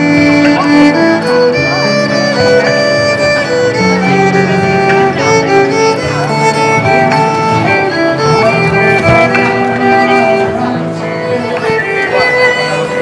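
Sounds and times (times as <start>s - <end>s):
violin playing slow melody: 0.0s - 13.0s.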